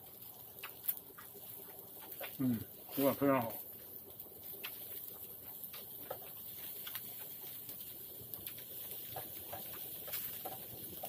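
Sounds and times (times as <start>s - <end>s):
meat crackling and popping: 0.0s - 11.0s.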